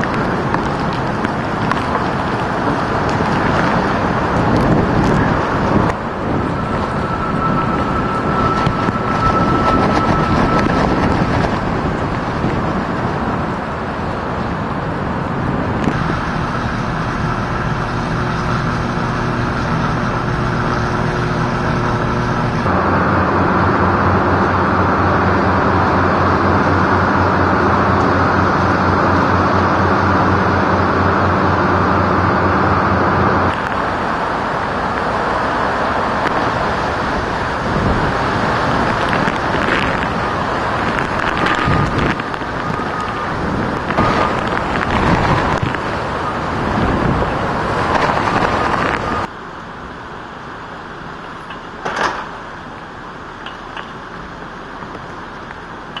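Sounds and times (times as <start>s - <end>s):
hurricane wind and heavy rain: 0.0s - 56.0s
low hum: 0.0s - 56.0s.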